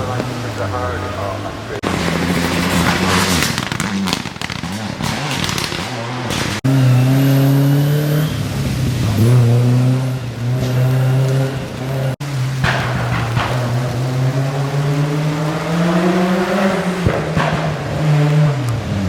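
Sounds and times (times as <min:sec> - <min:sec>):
rally car engines running hard: 0:00.0 - 0:19.0.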